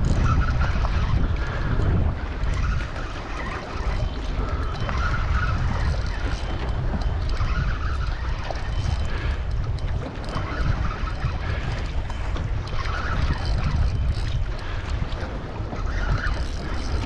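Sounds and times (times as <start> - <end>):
water washing around kayak: 0.0 - 17.0
wind buffeting microphone: 0.0 - 17.0.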